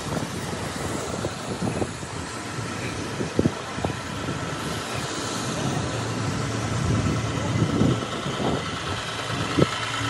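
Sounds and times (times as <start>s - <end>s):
bus engine idling: 0.0s - 10.0s
wind: 0.0s - 10.0s.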